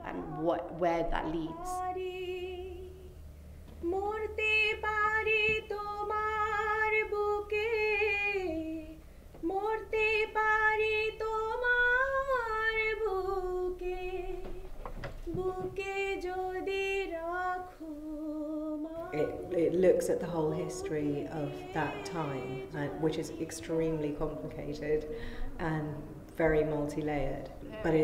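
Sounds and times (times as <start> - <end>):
woman singing unaccompanied: 0.0 - 3.2, 3.8 - 28.0.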